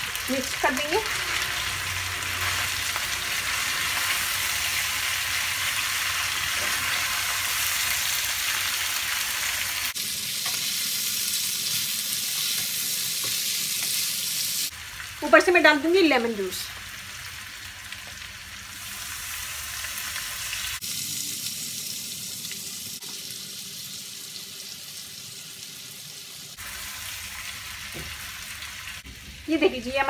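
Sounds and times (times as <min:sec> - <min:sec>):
chicken and onion sizzling in oil: 0:00.0 - 0:30.0.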